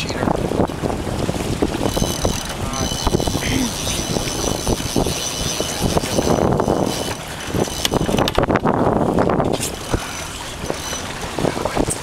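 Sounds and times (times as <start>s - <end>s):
knocks and slaps of water: 0.0s - 12.0s
wind buffeting microphone: 0.0s - 12.0s.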